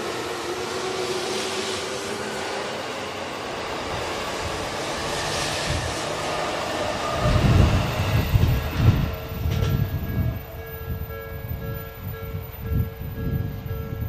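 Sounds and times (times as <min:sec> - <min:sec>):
low rumbling of train cars: 0:00.0 - 0:14.0
train wheel rush: 0:00.0 - 0:14.0.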